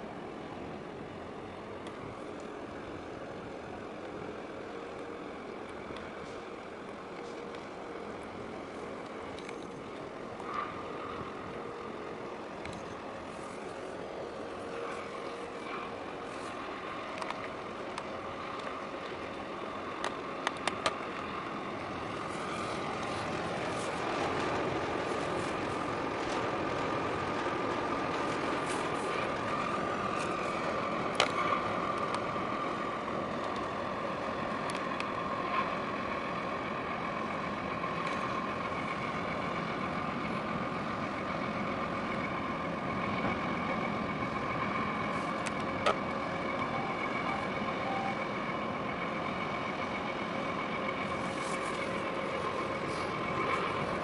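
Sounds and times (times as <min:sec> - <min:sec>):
ship machinery drone: 0:00.0 - 0:54.0
steady whine: 0:00.0 - 0:54.0.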